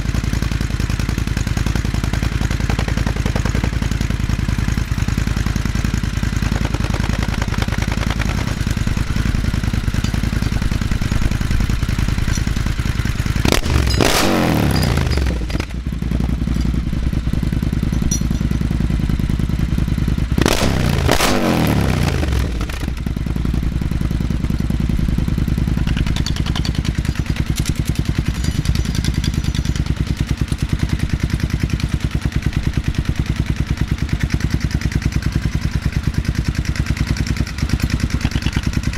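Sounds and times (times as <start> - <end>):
motorcycle engine idling: 0.0 - 21.2, 21.9 - 38.9
motorcycle engine revving: 0.0 - 38.9.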